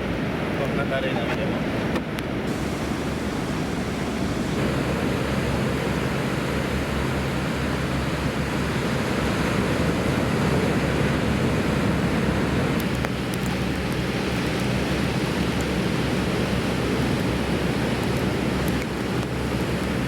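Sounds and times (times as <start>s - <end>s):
ocean surf rushing: 0.0s - 20.0s
wind buffeting microphone: 1.5s - 20.0s.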